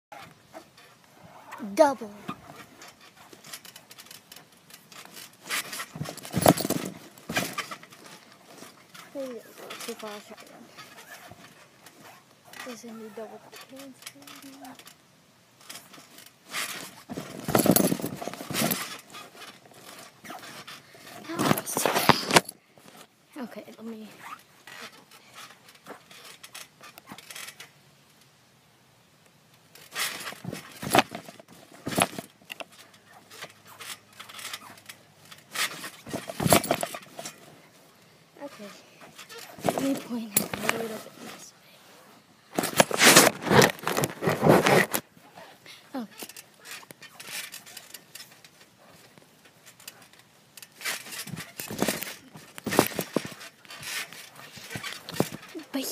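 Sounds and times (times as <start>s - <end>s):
trampoline mat thumps and rattles: 0.2s - 14.8s, 15.6s - 22.5s, 29.8s - 37.5s, 38.4s - 41.4s, 42.6s - 45.4s, 46.0s - 55.9s
light scraping and rustling: 0.2s - 28.3s, 29.6s - 55.9s.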